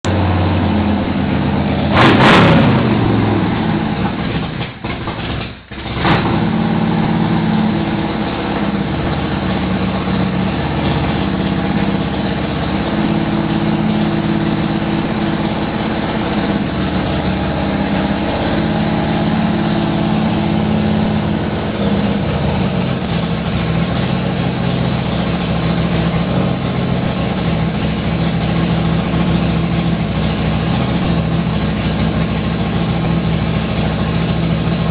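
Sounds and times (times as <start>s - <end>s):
motorcycle engine revving and idling: 0.0s - 34.9s.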